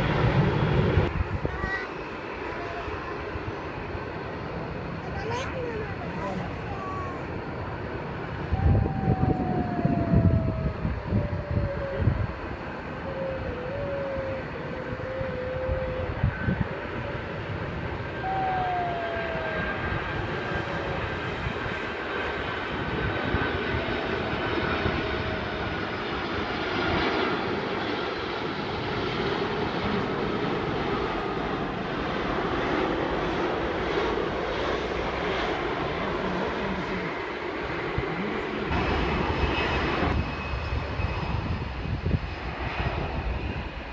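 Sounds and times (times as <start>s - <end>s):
airliner engine roar overhead: 0.0s - 43.9s
wind buffeting microphone: 0.0s - 43.9s.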